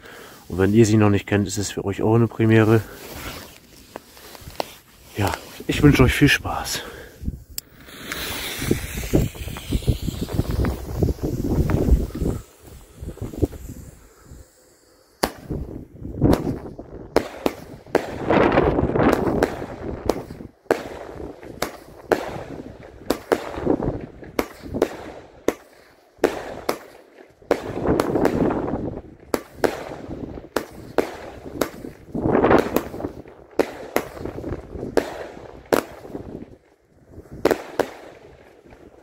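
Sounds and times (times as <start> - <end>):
firework crackling: 0.0 - 39.0
firework bangs: 4.2 - 39.0.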